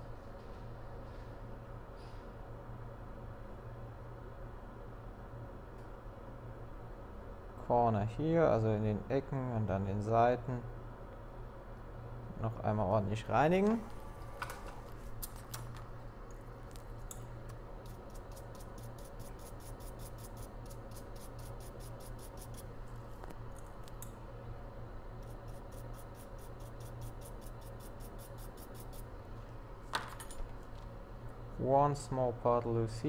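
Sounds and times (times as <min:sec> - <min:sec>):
low hum of workshop equipment: 0:00.0 - 0:33.0.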